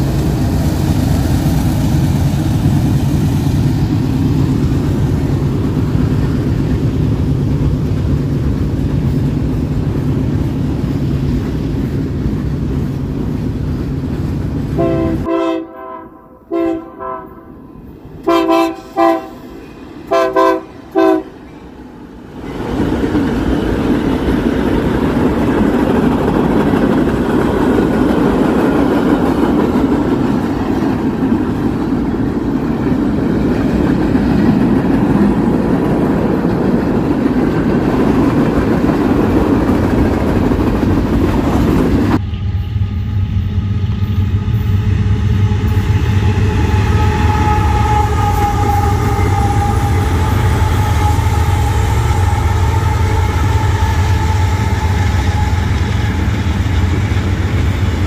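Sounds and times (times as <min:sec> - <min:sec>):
diesel locomotive droning: 0:00.0 - 0:58.0
train wheels rumbling on rails: 0:00.0 - 0:58.0.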